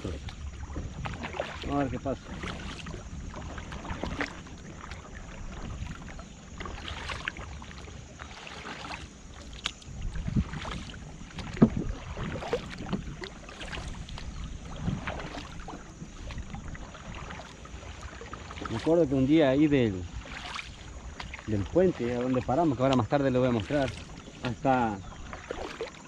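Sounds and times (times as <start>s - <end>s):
paddle splashing in water: 0.0s - 26.0s
wind rumble on microphone: 0.0s - 26.0s.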